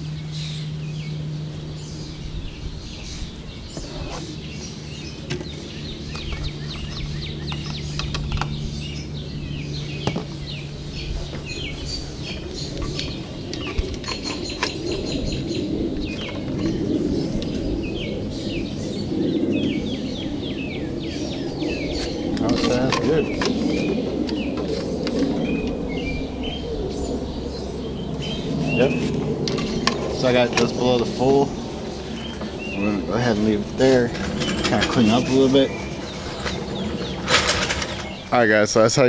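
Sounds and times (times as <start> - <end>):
songbirds chirping: 0.0 - 39.0
steady low hum: 0.0 - 39.0.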